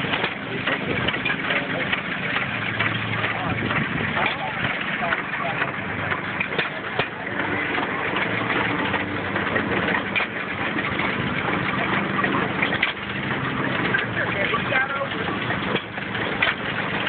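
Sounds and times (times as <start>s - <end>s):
stationary gas engines running: 0.0s - 17.0s.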